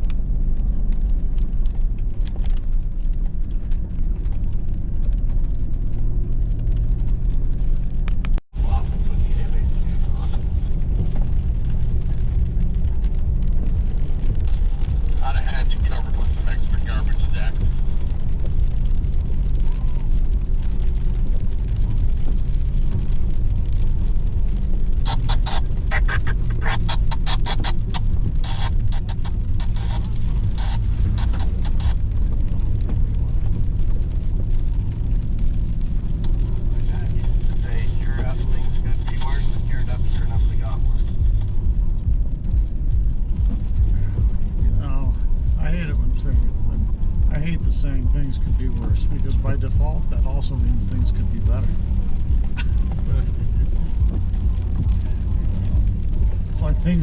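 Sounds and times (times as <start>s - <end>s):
engine humming inside cab: 0.0s - 57.0s.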